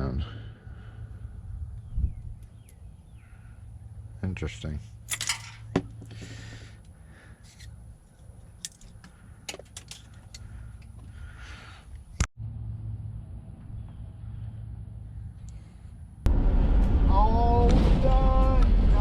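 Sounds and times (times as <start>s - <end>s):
vehicle driving hum: 0.0s - 19.0s.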